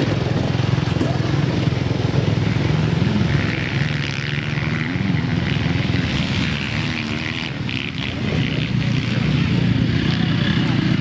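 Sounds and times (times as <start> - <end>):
motocross motorcycle engine: 0.0 - 11.0.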